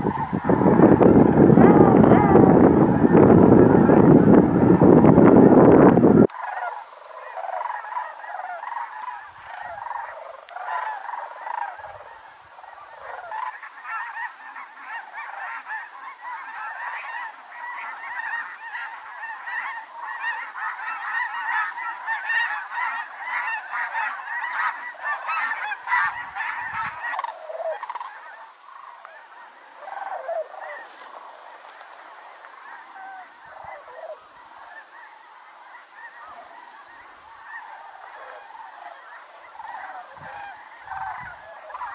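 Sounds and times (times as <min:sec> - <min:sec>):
geese and cranes honking: 0:00.0 - 0:41.9.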